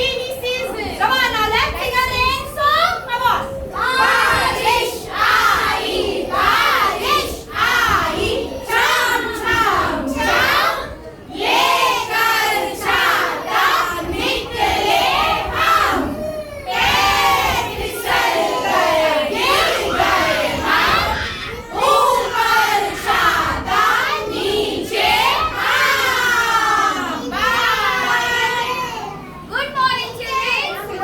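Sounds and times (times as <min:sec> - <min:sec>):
children shouting and chattering: 0:00.0 - 0:31.0.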